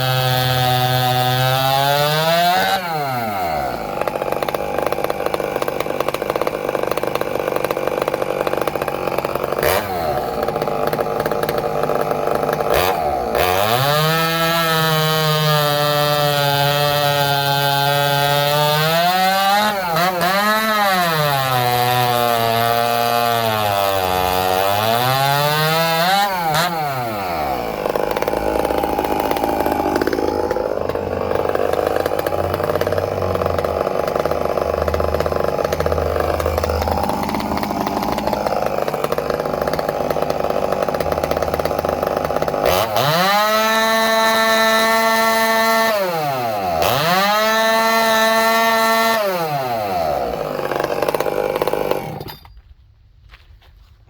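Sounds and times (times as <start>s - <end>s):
chainsaw revving: 0.0s - 52.5s
chainsaw cutting wood: 0.0s - 52.8s.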